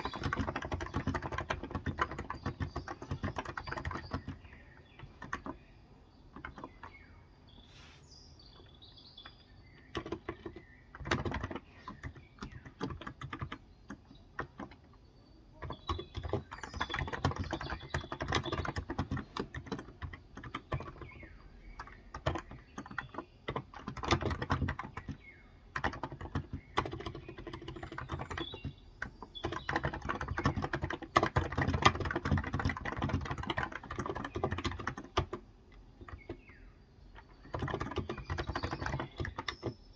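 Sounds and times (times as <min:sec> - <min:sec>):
keyboard typing: 0:00.0 - 0:07.1, 0:08.6 - 0:39.9
birds chirping faintly: 0:00.0 - 0:39.9.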